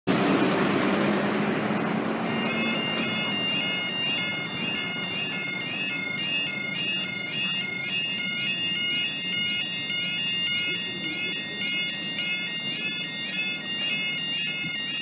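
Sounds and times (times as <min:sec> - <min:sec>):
level crossing alarm warbling: 0:01.7 - 0:15.0.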